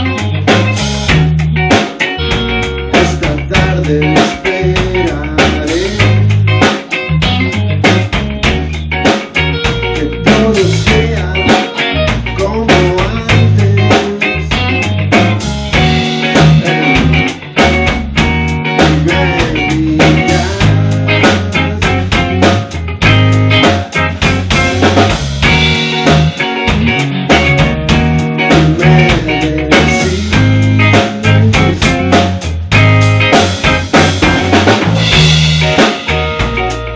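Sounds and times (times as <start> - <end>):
drum kit steady beat: 0.0 - 36.9
electric guitar: 0.0 - 36.9.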